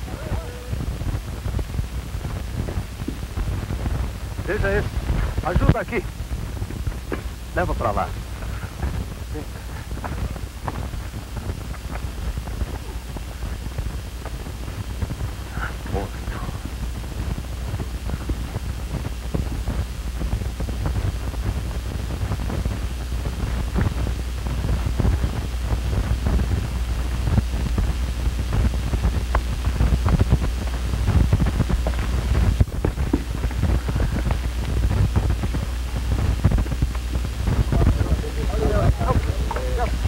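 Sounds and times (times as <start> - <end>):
crackles and pops: 0.0 - 40.0
film soundtrack hiss and hum: 0.0 - 40.0.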